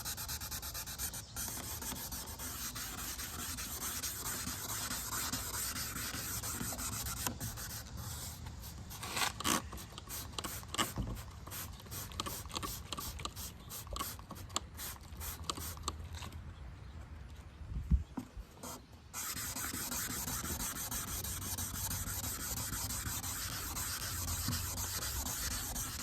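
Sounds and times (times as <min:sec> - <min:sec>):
abrasive pad sanding plastic: 0:00.0 - 0:14.2, 0:19.2 - 0:26.0.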